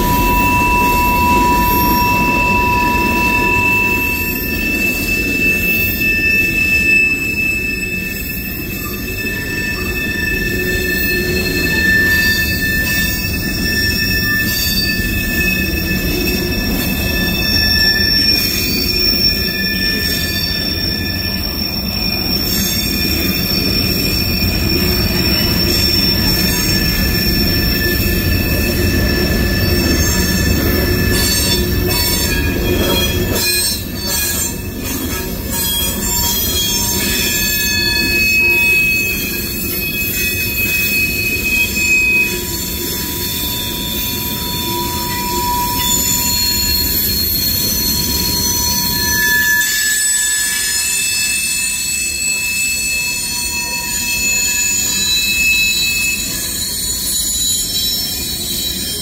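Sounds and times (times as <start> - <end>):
train wheels rumbling on rails: 0.0 - 59.0
wheel flange squeal: 0.0 - 59.0.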